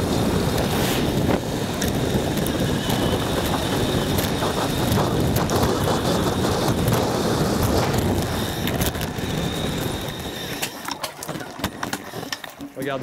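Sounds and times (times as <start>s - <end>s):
wind rushing over microphone: 0.0s - 10.7s
bicycle road rumble: 0.0s - 13.0s.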